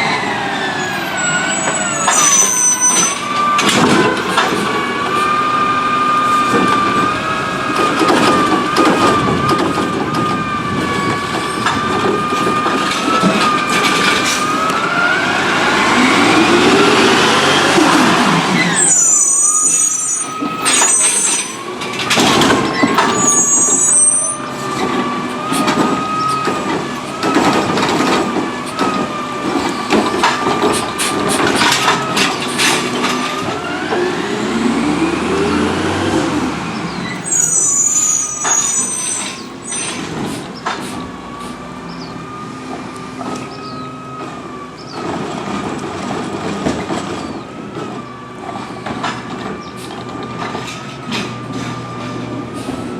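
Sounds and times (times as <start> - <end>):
garbage truck high whine: 0.0 - 52.9.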